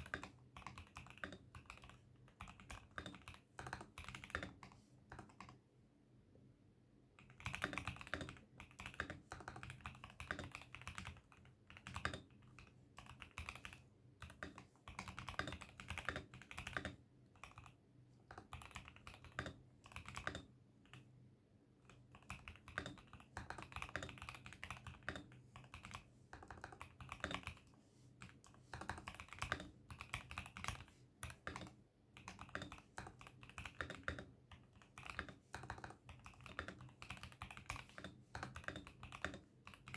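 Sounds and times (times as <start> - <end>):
mechanical keyboard typing: 0.0 - 5.6, 7.2 - 21.1, 21.8 - 39.9.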